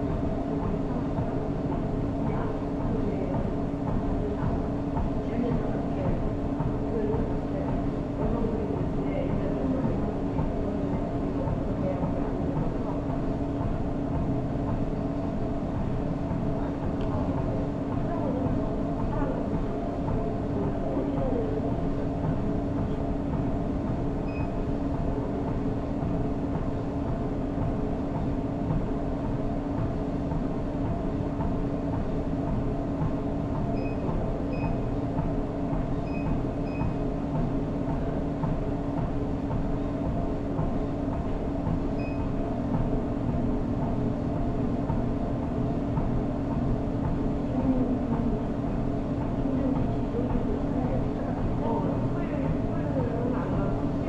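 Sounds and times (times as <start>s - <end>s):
treadmill motor and belt drone: 0.0s - 54.0s.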